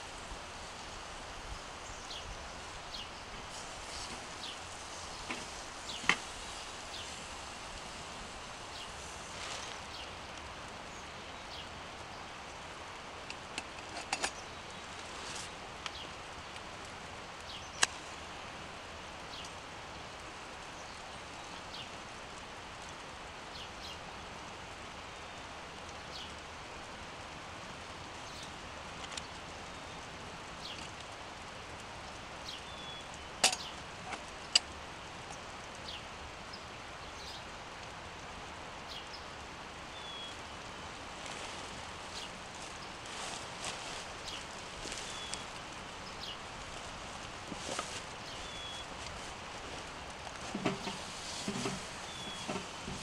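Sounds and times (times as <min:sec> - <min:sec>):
outdoor background hiss: 0:00.0 - 0:53.0.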